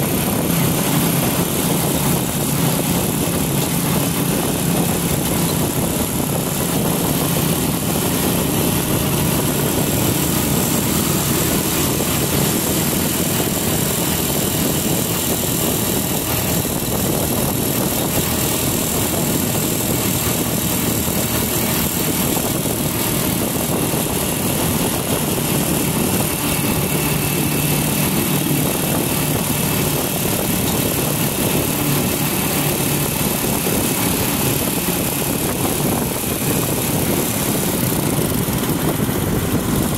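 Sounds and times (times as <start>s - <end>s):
motorcycle engine hum: 0.0s - 39.9s
wind and road noise: 0.0s - 39.9s.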